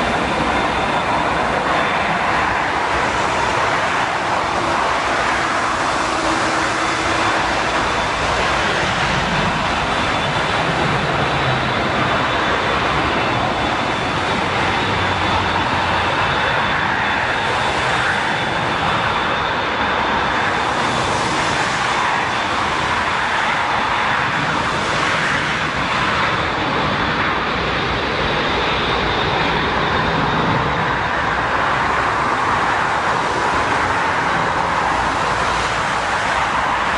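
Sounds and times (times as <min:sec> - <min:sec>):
jet engines rushing: 0:00.0 - 0:36.9.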